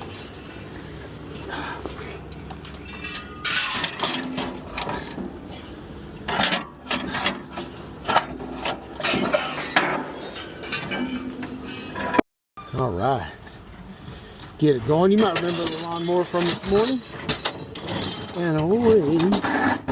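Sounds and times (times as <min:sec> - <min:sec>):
scrap metal clanking and scraping: 0:00.0 - 0:12.8, 0:13.5 - 0:19.9.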